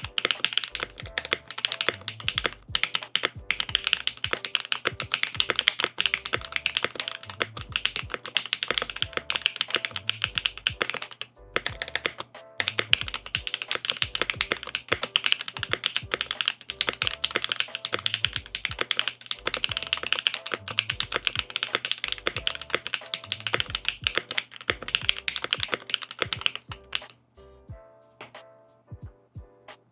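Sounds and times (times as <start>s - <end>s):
typing on mechanical keyboard: 0.0s - 27.2s
background music: 0.0s - 29.9s.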